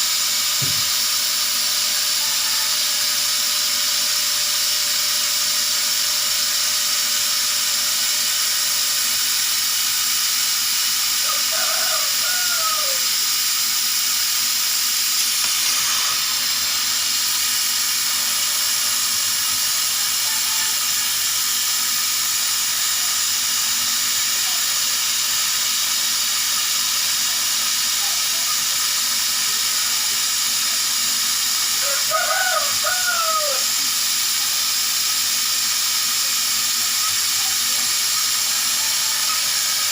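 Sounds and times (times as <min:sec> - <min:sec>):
laser cutter hissing: 0:00.0 - 0:39.9.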